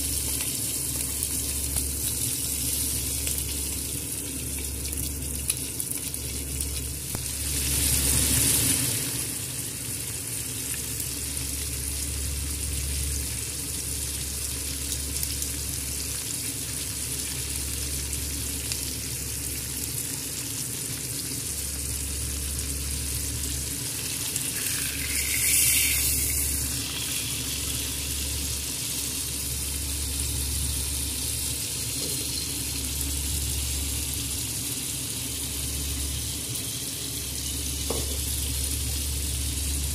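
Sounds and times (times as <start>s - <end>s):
steak sizzling in frying pan: 0.0s - 12.0s, 14.2s - 39.8s.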